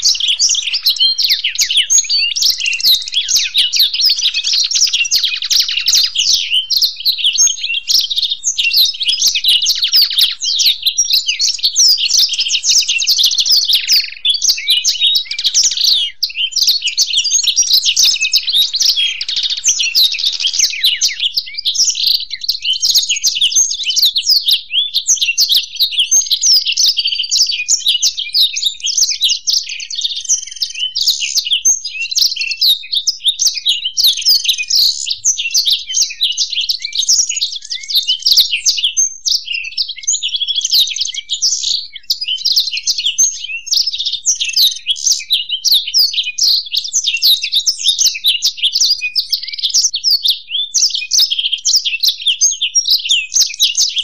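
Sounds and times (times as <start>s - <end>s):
songbirds twittering: 0.0s - 54.0s.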